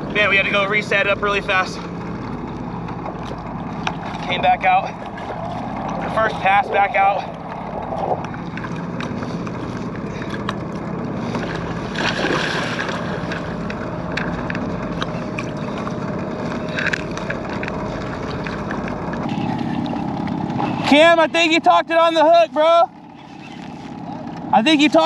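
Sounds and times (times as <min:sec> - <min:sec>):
choppy water against kayak: 0:00.0 - 0:25.0
steady low hum: 0:00.0 - 0:25.0.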